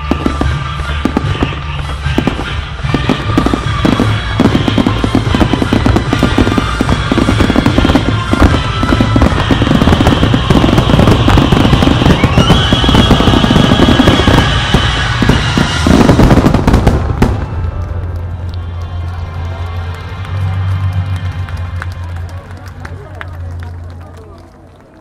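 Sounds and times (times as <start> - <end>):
music: 0.0 - 25.0.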